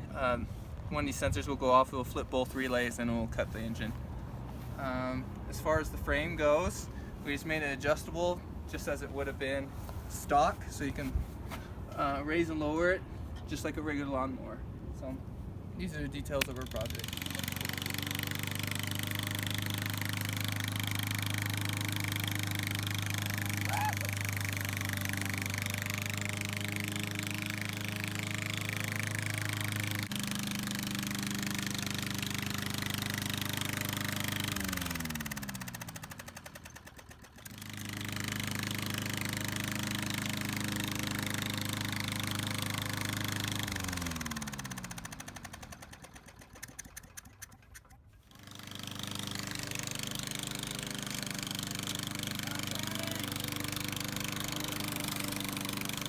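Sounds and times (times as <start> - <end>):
lawn mower engine running: 2.4 - 11.6, 16.5 - 56.0.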